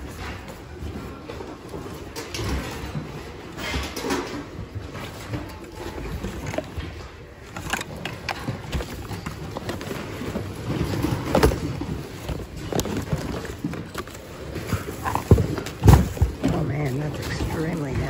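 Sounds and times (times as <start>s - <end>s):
rustling of cloth and plastic: 0.0s - 18.0s.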